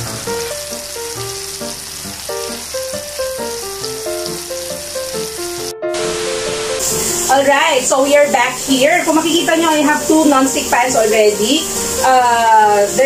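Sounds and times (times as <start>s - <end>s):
melodic background music: 0.0s - 13.0s
patties sizzling in frying pan: 0.0s - 13.0s.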